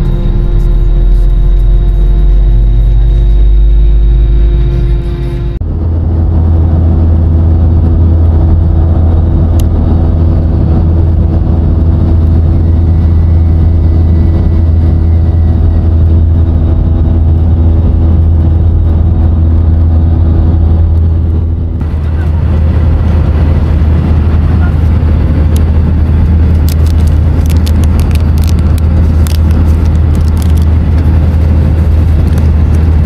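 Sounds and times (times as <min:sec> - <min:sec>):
faint steady hum: 0:00.0 - 0:33.0
jet engine rumble in cabin: 0:00.0 - 0:33.0.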